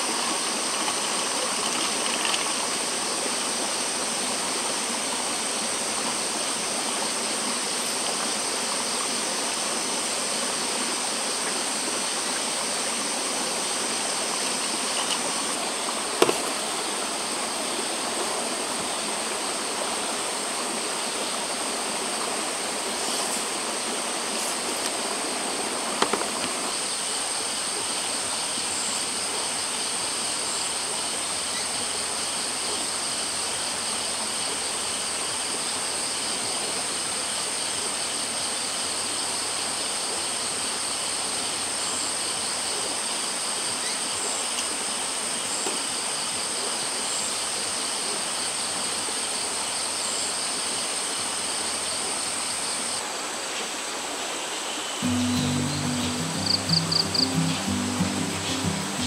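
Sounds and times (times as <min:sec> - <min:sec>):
night insects droning: 0:00.0 - 0:59.0
stream flowing: 0:00.0 - 0:59.0.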